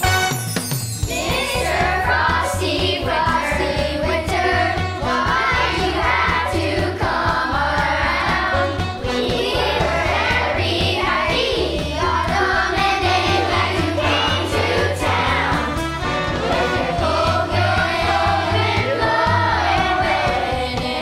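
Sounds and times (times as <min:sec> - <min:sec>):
instrumental accompaniment with bass: 0:00.0 - 0:21.0
children's choir singing: 0:01.1 - 0:21.0.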